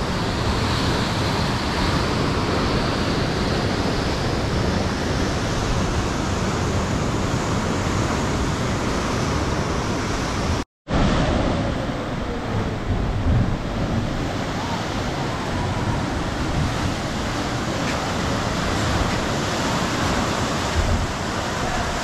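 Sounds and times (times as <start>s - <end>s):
ocean surf rushing: 0.0s - 22.0s
wind on microphone: 0.0s - 22.0s.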